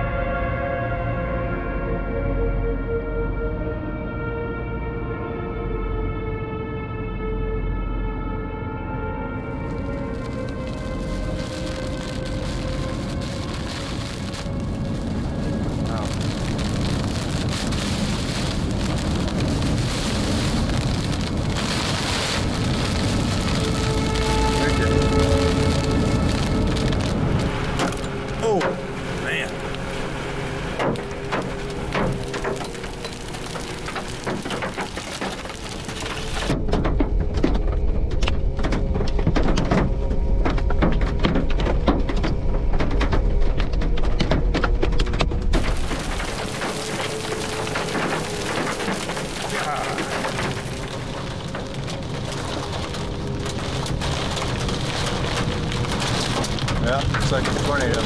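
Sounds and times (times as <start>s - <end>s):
tyres rumbling on wet road: 9.2s - 58.0s
heavy rain drumming on car roof: 9.4s - 58.0s.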